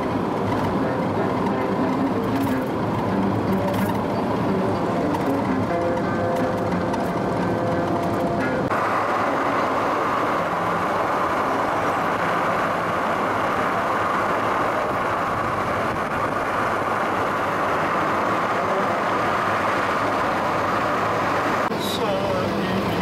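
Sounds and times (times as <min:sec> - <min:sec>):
vehicle road noise: 0:00.0 - 0:23.0.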